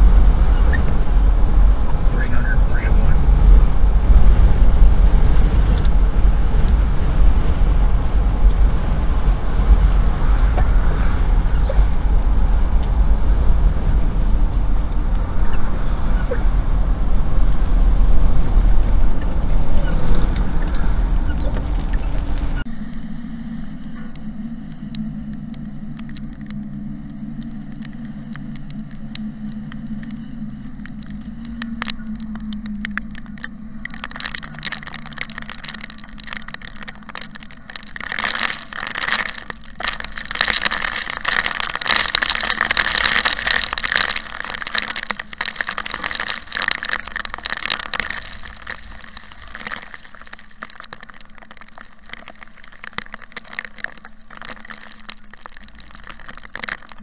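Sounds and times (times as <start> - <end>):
car driving drone: 0.0 - 49.7
rain hitting car windshield and roof: 0.0 - 57.0.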